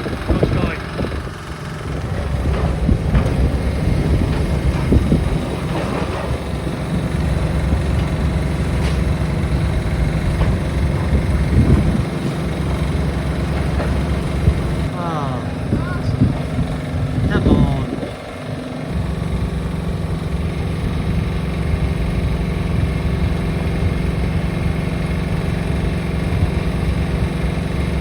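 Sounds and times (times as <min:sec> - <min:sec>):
heavy engine rumbling: 0:00.0 - 0:28.0.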